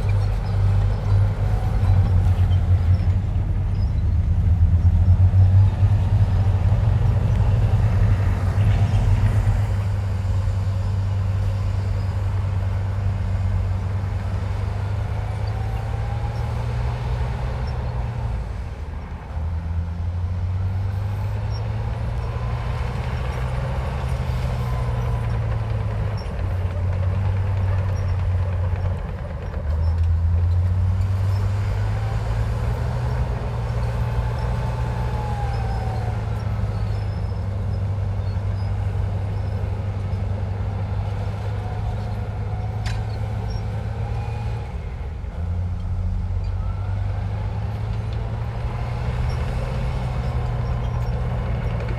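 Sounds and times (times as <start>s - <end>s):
bulldozer diesel engine droning: 0.0s - 51.9s.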